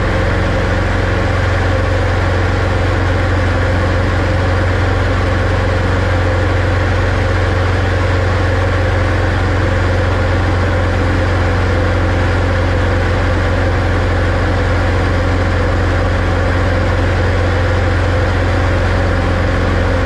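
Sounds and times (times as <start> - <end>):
light aircraft engine drone: 0.0 - 20.0.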